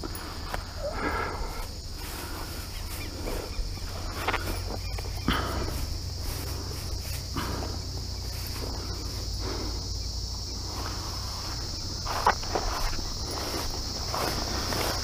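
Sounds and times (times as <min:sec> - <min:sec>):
footsteps swishing through grass: 0:00.0 - 0:09.6, 0:10.6 - 0:15.0
insects chirring: 0:00.0 - 0:15.0.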